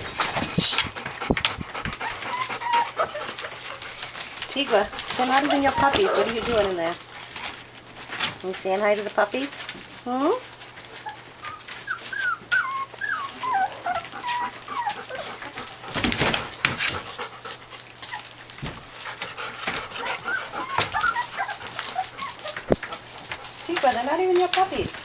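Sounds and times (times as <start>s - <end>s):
puppies whimpering and squeaking: 0.0s - 7.0s, 10.5s - 15.9s, 16.7s - 25.0s.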